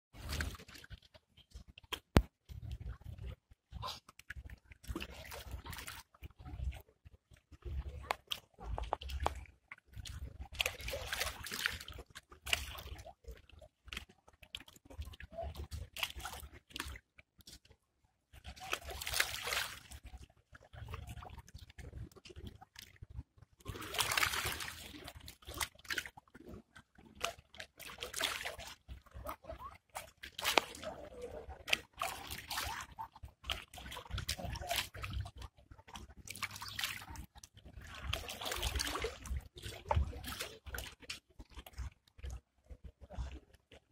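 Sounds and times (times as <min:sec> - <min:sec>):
small waves lapping against rocks: 0:00.2 - 0:43.9.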